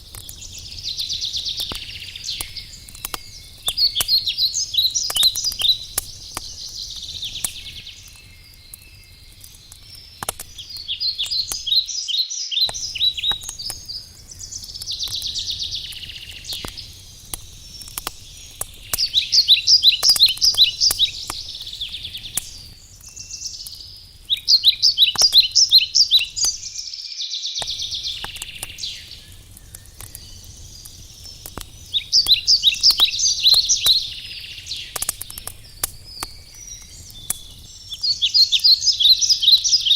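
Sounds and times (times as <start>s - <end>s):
wood fire crackling and popping: 0.0s - 12.0s, 12.6s - 26.9s, 27.6s - 39.9s.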